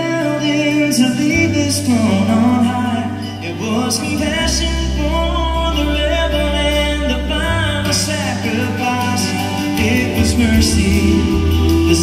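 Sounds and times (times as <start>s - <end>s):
acoustic guitars: 0.0s - 12.0s
person singing: 0.0s - 12.0s
steady low bass: 1.3s - 12.0s.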